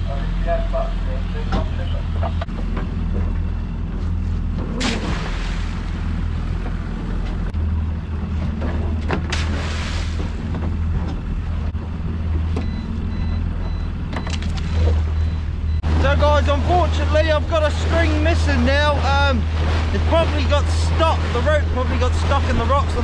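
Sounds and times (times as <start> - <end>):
outboard motor running: 0.0 - 23.0
water rushing past hull: 2.9 - 23.0.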